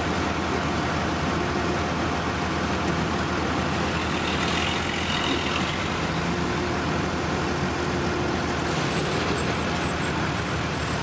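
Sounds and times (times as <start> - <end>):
heavy machinery engines running: 0.0 - 11.0.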